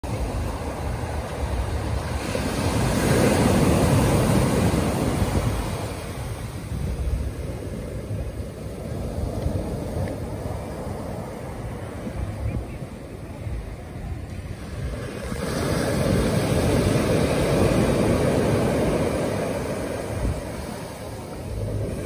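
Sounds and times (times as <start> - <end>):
surf breaking on a beach: 0.0 - 22.0
wind buffeting microphone: 0.0 - 22.0.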